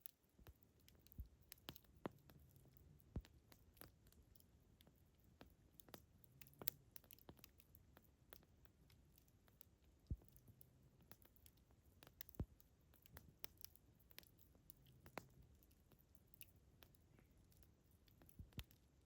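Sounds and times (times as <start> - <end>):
campfire crackling and popping: 0.4 - 18.8.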